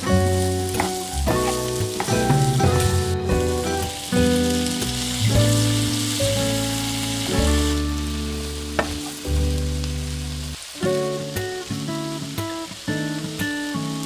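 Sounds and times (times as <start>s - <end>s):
acoustic guitar music: 0.0s - 14.0s
food sizzling in a pan: 0.0s - 14.0s.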